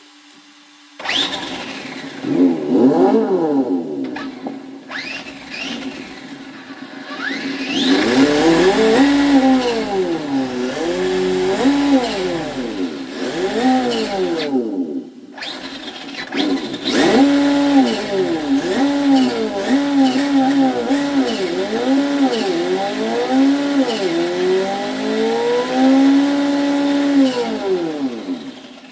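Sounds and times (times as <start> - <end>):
simulated engine revving: 1.0 - 28.9.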